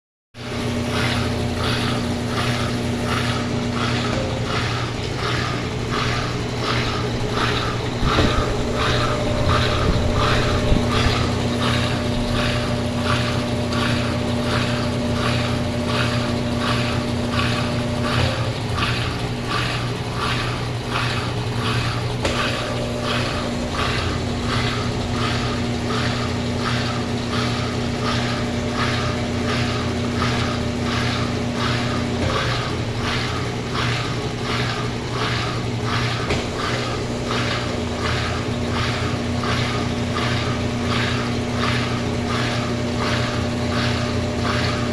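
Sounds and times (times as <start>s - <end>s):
washing machine spin cycle: 0.4s - 44.9s.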